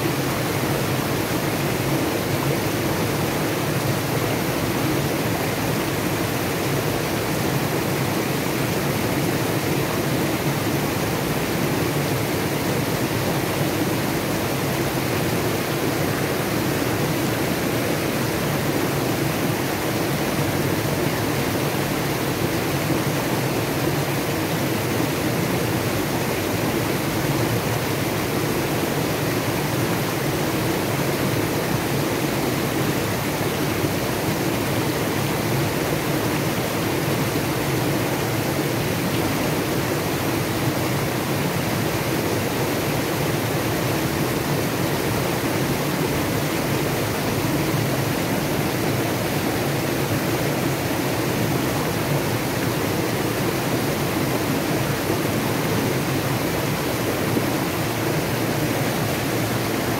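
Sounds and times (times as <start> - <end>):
creek rushing over boulders: 0.0 - 59.9.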